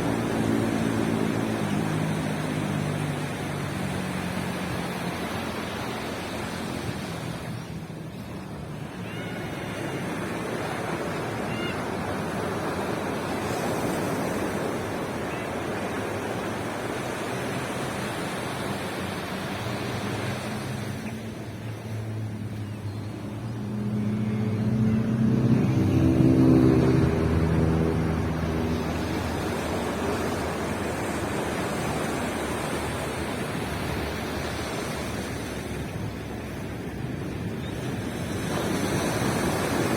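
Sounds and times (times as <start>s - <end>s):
engine passing by: 0.0s - 39.9s
waves breaking on beach: 0.0s - 39.9s.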